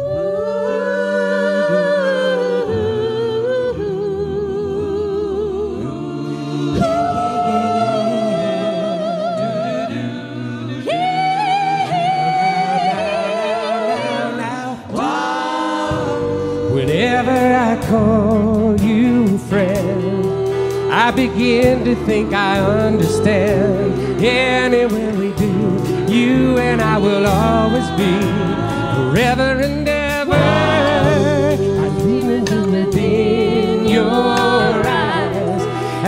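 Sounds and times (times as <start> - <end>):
voices singing in harmony: 0.0 - 36.0.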